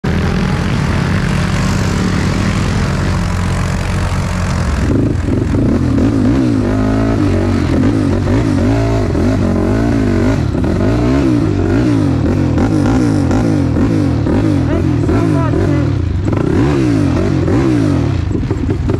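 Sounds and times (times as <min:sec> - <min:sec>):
atv engine revving: 0:00.0 - 0:18.9.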